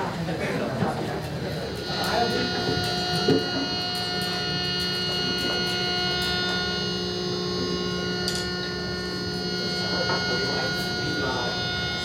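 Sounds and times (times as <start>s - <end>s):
amplifier hum and buzz: 0.0s - 12.0s.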